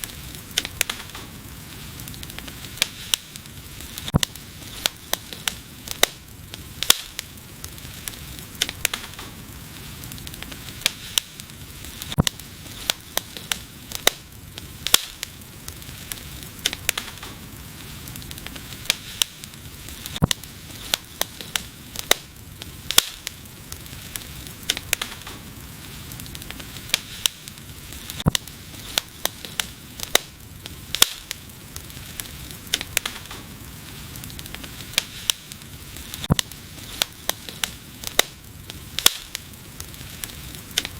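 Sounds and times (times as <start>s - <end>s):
hiss of flames: 0.0s - 40.9s
wood fire crackling and popping: 0.0s - 40.9s.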